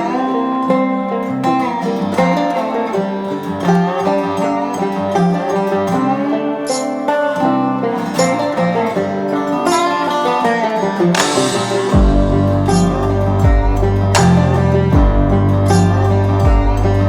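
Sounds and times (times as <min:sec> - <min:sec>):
upbeat banjo and guitar tune: 0:00.0 - 0:17.0.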